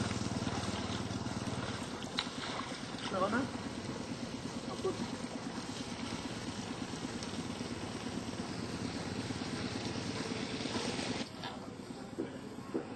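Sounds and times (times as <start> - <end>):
engine running with low pulse: 0.0 - 12.9.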